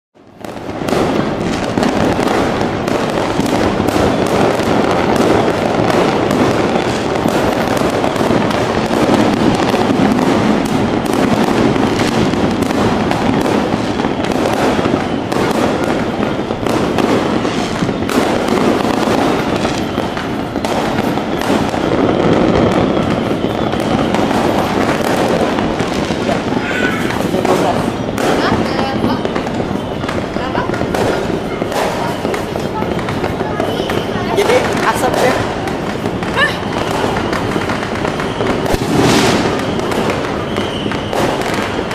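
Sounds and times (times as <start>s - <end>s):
fireworks crackling and banging: 0.2s - 41.9s.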